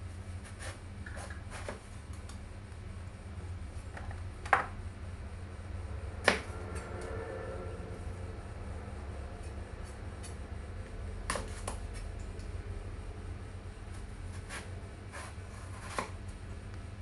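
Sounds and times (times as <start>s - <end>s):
low hum: 1.0s - 17.0s.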